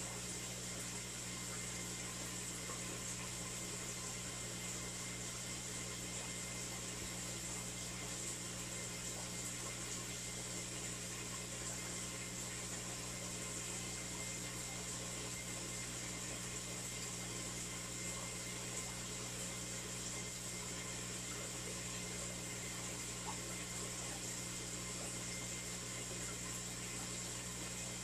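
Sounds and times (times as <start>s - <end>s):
low hum with hiss: 0.0s - 28.0s.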